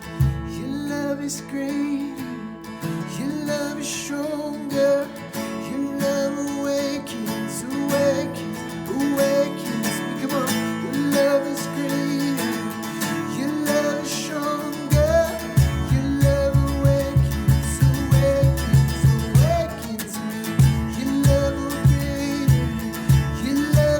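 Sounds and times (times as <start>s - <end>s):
strummed acoustic guitar music: 0.0s - 23.9s.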